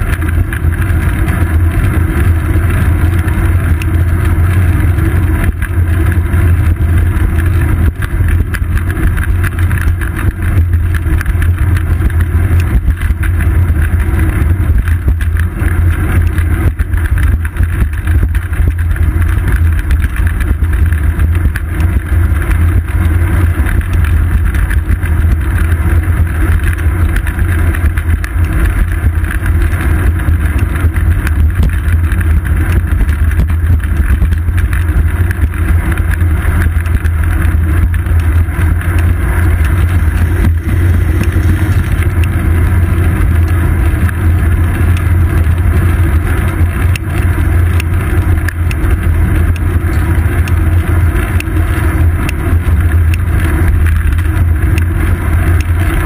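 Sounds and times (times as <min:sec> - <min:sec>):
bicycle road vibration: 0:00.0 - 0:56.0
wind buffeting: 0:00.0 - 0:56.0.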